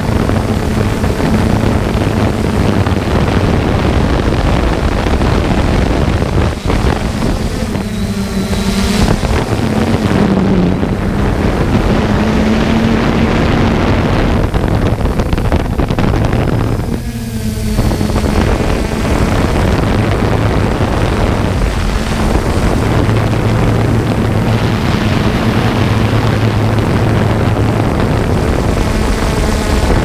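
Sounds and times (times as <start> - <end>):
small aircraft propeller drone: 0.0 - 30.0
wind buffeting microphone: 0.0 - 30.0.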